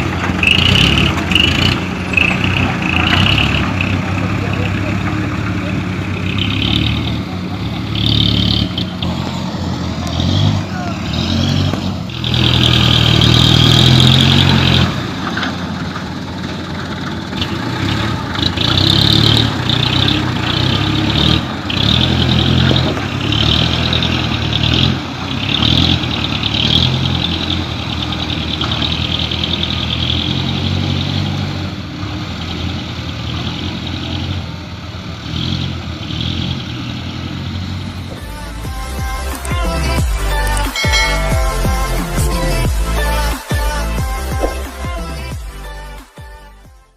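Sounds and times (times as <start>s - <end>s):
diesel truck engine revving: 0.0s - 46.9s.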